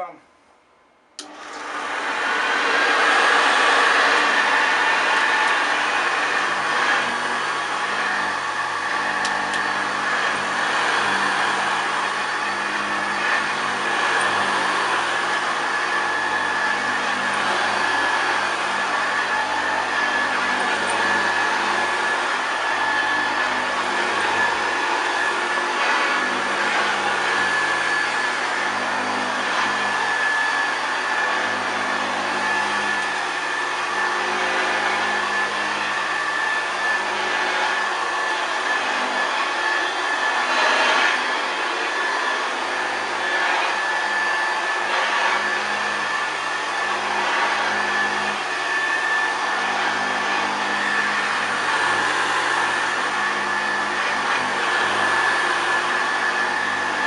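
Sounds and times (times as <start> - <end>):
vacuum cleaner running: 1.2 - 57.0.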